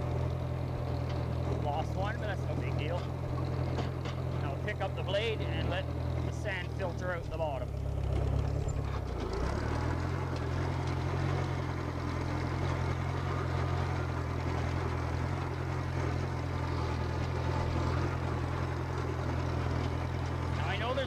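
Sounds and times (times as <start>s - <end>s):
bulldozer engine running: 0.0s - 21.0s.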